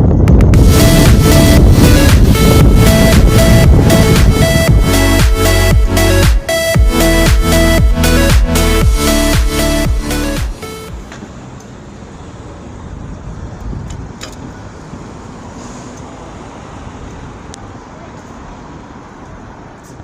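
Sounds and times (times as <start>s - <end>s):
low rumble of passing vehicles: 0.0s - 20.0s.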